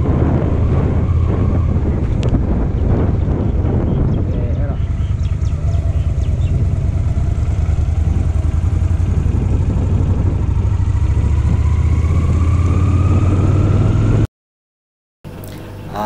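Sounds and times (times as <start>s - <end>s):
motorcycle engine riding off: 0.0s - 14.2s.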